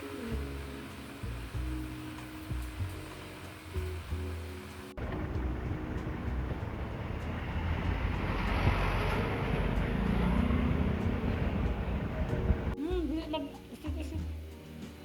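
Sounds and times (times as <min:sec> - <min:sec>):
road noise: 0:00.0 - 0:12.8
vehicle engine rumbling: 0:00.2 - 0:12.8.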